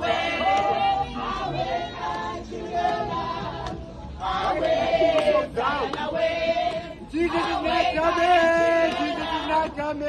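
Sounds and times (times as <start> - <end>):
group of people singing: 0.0 - 10.0.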